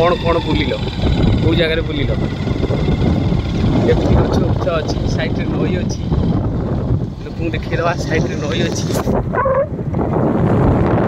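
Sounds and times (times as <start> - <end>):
motorbike ride rumble: 0.0 - 11.0
wind buffeting microphone: 0.0 - 11.0.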